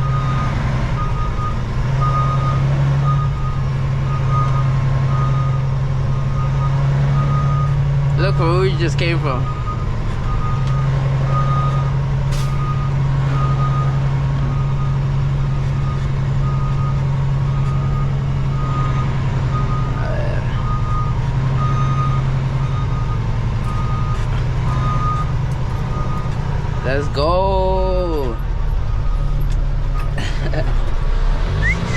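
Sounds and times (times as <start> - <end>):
backup alarm beeping: 0.0 - 8.5, 9.1 - 30.0
diesel truck engine drone: 0.0 - 31.9.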